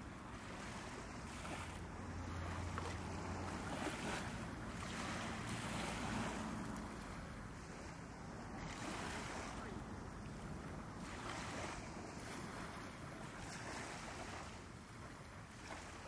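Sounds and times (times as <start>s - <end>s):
water lapping: 0.0s - 16.0s.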